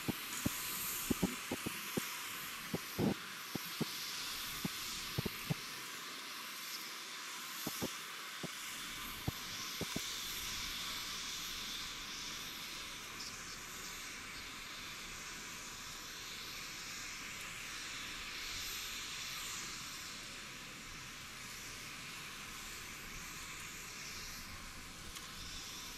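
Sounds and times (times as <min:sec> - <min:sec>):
distant turboprop aircraft hissing: 0:00.0 - 0:25.9.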